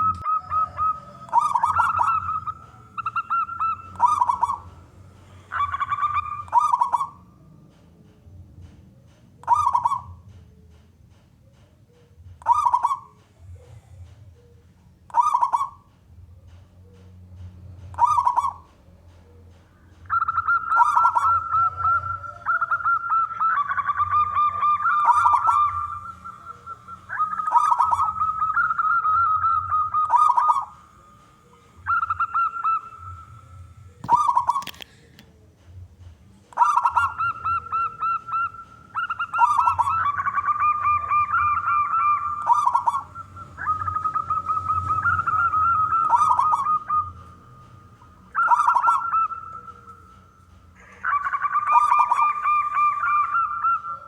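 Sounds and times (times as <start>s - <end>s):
doves cooing: 0.0s - 54.0s
steady low hum: 0.0s - 54.0s.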